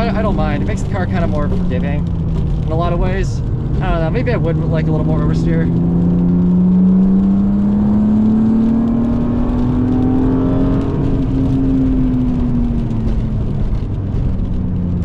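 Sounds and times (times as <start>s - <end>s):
car engine accelerating: 0.0s - 15.0s
road and tyre rumble: 0.0s - 15.0s.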